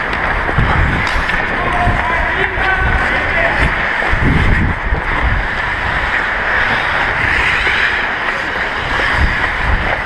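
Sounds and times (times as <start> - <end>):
skate blades scraping ice: 0.0 - 10.0
wind on microphone: 0.0 - 10.0.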